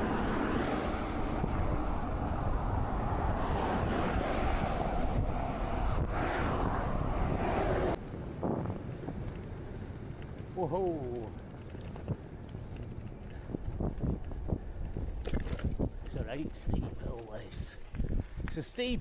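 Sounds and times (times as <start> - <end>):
car passing: 0.0 - 18.2
wind rushing over microphone: 0.0 - 19.0.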